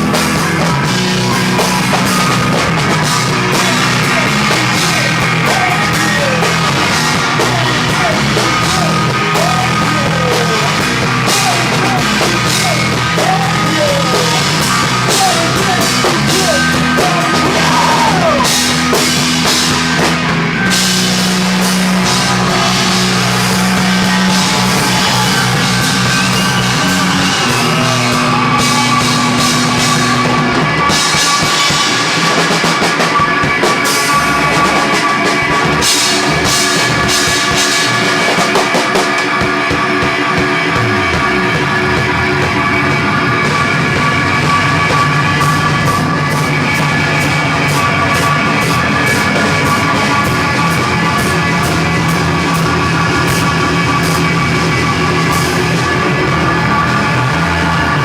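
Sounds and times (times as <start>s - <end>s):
drum kit beat: 0.0s - 58.0s
live rock band playing: 0.0s - 58.0s.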